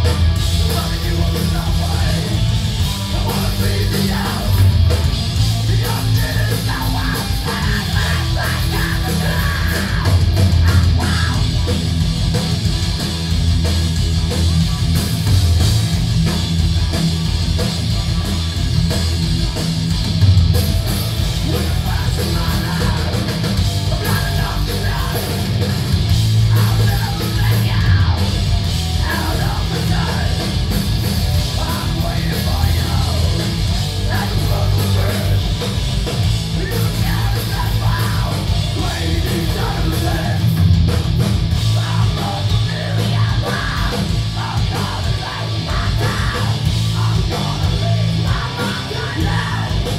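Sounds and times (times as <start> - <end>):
heavy rock band playing: 0.0 - 49.9.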